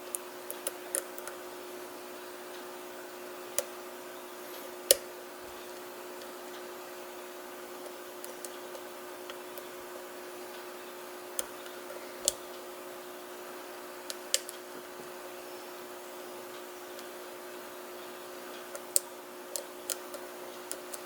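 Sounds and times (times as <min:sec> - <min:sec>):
steady faint hum: 0:00.0 - 0:21.0.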